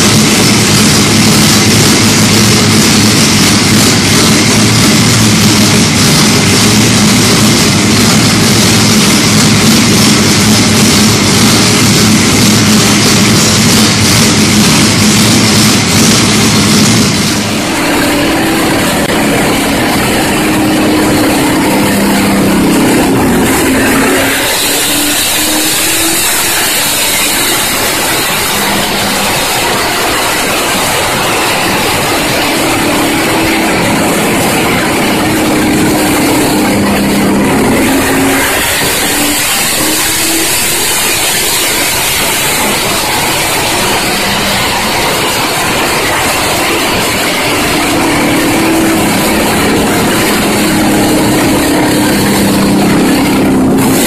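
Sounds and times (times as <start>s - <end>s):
race car engine running loud: 0.0s - 54.0s.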